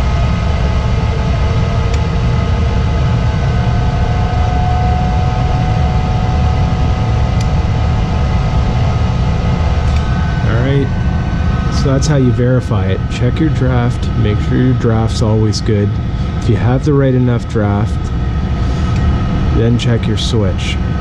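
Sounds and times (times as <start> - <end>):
gas furnace rumbling: 0.0 - 21.0.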